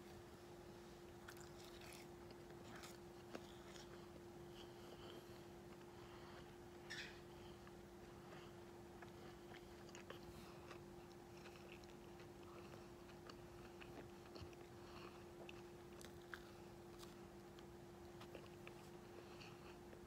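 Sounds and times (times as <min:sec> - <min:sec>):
steady low hum: 0:00.0 - 0:20.0
chewing and biting: 0:01.2 - 0:06.9, 0:07.6 - 0:19.9.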